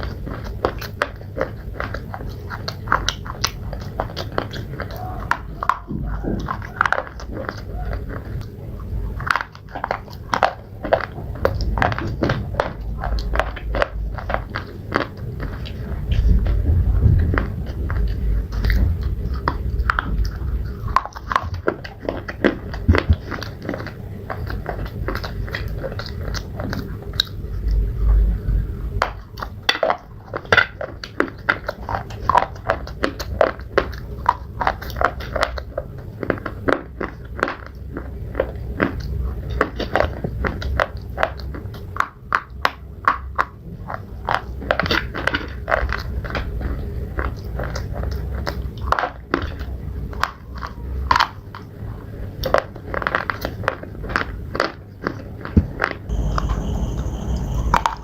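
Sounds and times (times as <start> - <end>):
slate crunching being chewed: 0.0 - 58.0.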